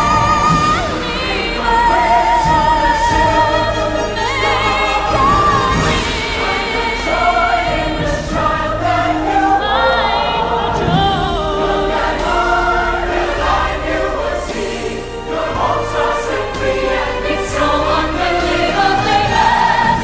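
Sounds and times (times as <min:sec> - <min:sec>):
choir singing with instruments: 0:00.0 - 0:20.0.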